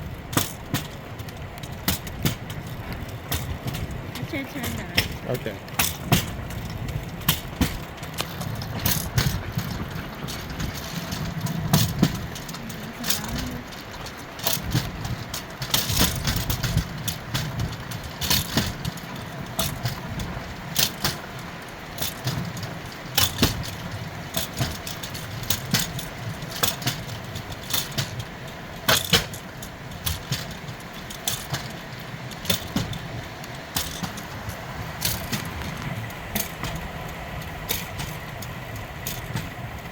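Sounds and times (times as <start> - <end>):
steel wheels rumbling on track: 0.0 - 39.9
wheels clicking and rattling: 0.0 - 39.9.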